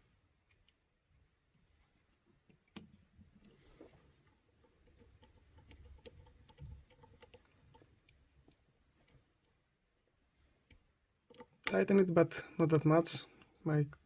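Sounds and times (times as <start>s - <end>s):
faint clicks of small parts: 0.0s - 1.4s, 2.0s - 9.6s, 10.4s - 14.0s.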